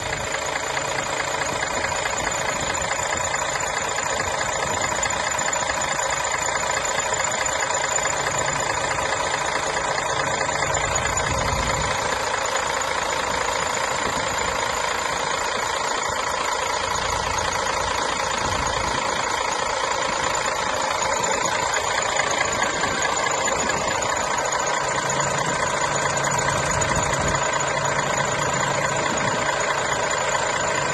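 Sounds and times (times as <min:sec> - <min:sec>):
bus engine idling: 0:00.0 - 0:30.9.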